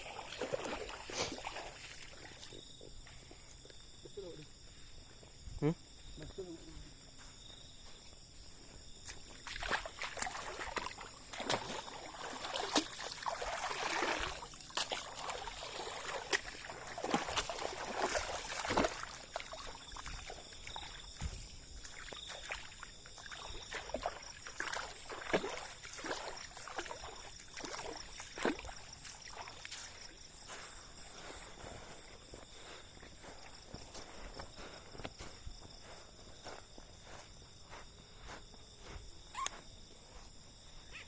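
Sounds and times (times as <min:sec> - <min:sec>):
water splashing and sloshing: 0:00.0 - 0:03.8, 0:08.0 - 0:40.8.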